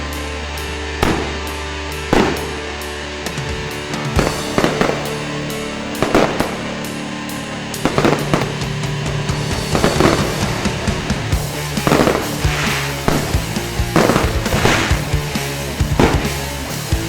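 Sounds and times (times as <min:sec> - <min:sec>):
steady music: 0:00.0 - 0:17.0
fireworks bangs: 0:01.0 - 0:17.0
fireworks crackle: 0:01.0 - 0:17.0.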